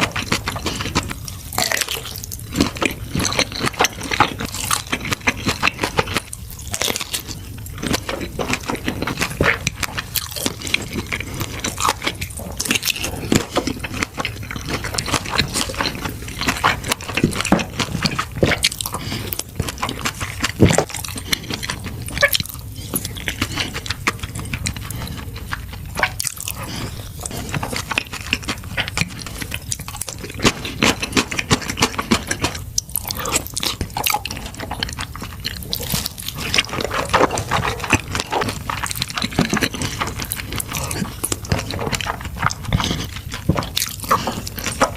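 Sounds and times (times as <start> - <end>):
person chewing and biting: 0.0 - 44.9.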